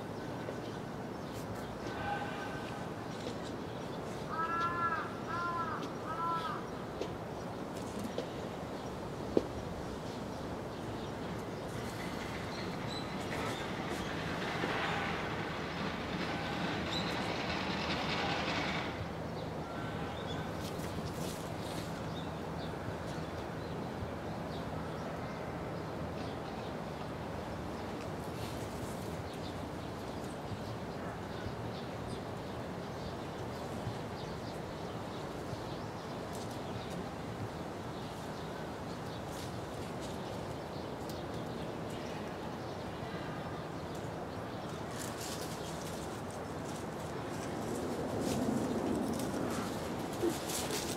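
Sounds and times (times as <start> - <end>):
passing vehicle rumble and hiss: 0.8 - 30.9, 32.4 - 50.9.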